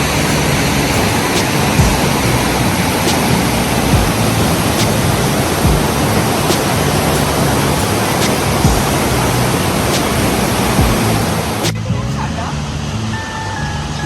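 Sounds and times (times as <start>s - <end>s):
river water rushing: 0.0s - 11.8s.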